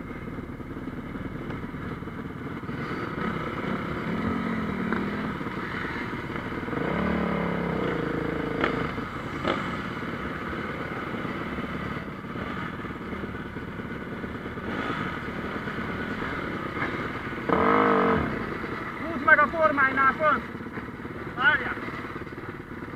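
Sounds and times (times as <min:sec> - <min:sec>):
motocross bike engines revving: 0:01.4 - 0:22.9.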